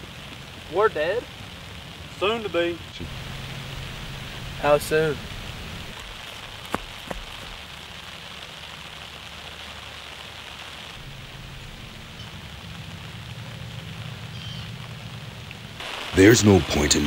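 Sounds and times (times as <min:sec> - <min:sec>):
light rain hissing: 0:00.0 - 0:17.0.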